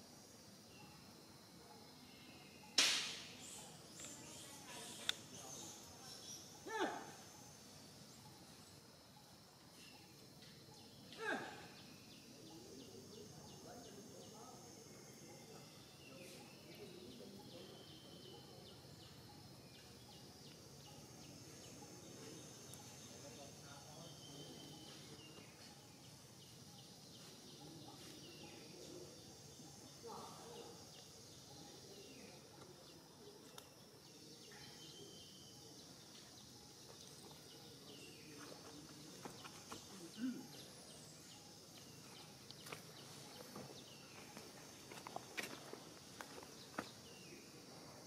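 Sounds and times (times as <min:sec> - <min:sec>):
high insect hum: 0:00.0 - 0:48.0.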